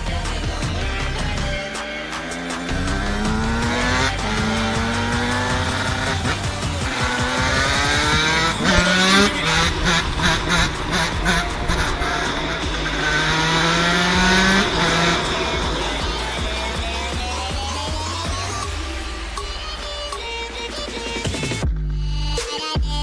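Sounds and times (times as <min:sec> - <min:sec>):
two-stroke engine revving: 0:00.0 - 0:21.7.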